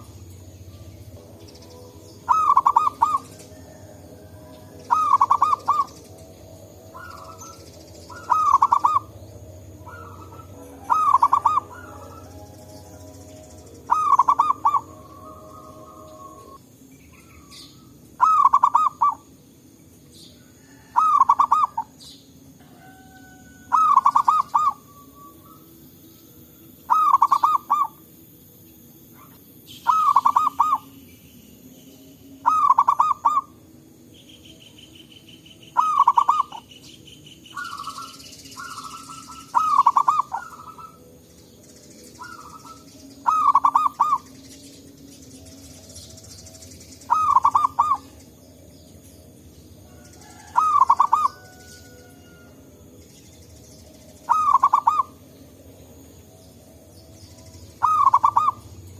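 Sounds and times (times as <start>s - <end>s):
doves cooing: 0.0s - 19.4s, 20.2s - 28.2s, 29.0s - 31.1s, 32.4s - 33.8s, 35.6s - 36.9s, 37.5s - 41.3s, 41.9s - 52.9s, 53.8s - 58.9s.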